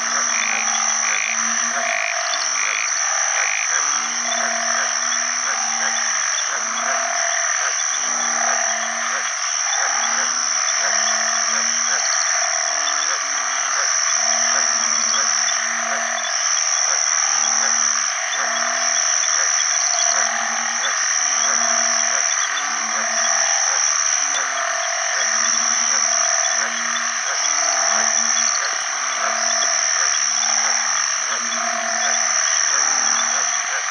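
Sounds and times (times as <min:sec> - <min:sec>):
bullfrogs calling: 0:00.0 - 0:33.9
chorus of calling animals: 0:00.0 - 0:33.9.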